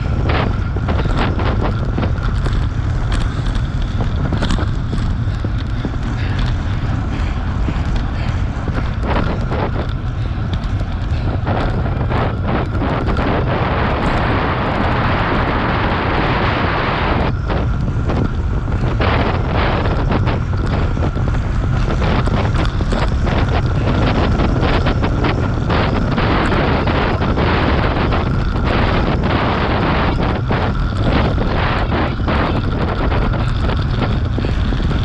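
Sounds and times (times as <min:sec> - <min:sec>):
wind rush on microphone: 0:00.0 - 0:35.0.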